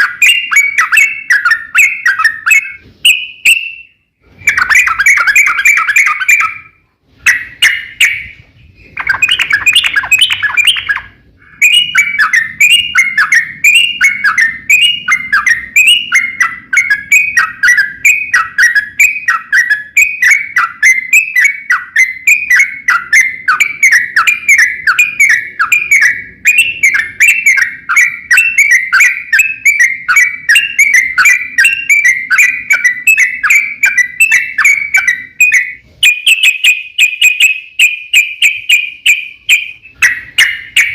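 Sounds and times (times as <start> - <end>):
bulbul song: 0.0 - 40.9.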